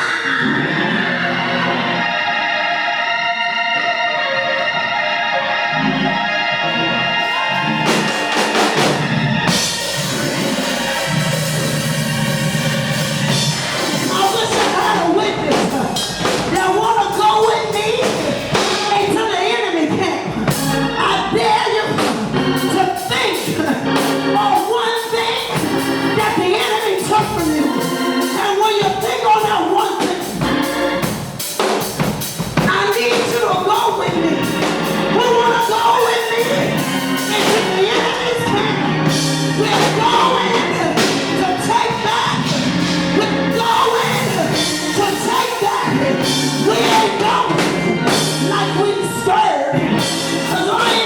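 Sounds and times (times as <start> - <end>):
church music held chords: 0.0 - 51.0
drum kit playing: 7.2 - 19.5, 20.3 - 51.0.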